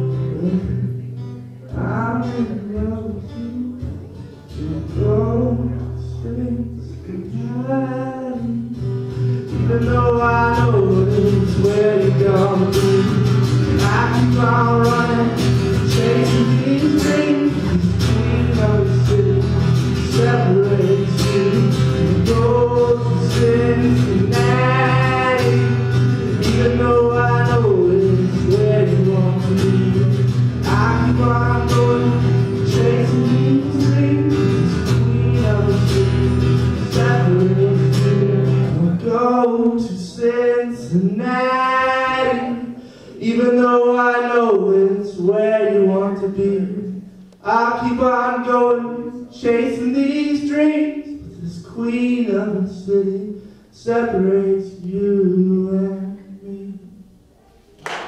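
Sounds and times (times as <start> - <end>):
strummed acoustic guitar: 0.0 - 56.0
man singing: 0.0 - 57.1.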